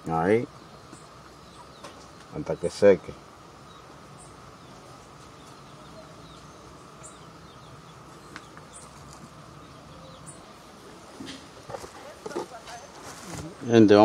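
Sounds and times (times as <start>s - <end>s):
bird chirps: 0.3s - 13.2s.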